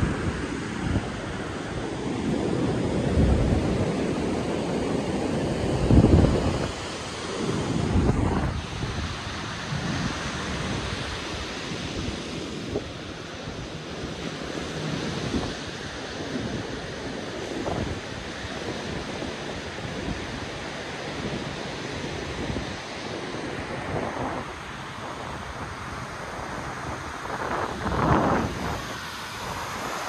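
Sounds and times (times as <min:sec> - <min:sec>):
ocean surf washing: 0:00.0 - 0:30.0
wind buffeting microphone: 0:00.0 - 0:30.0.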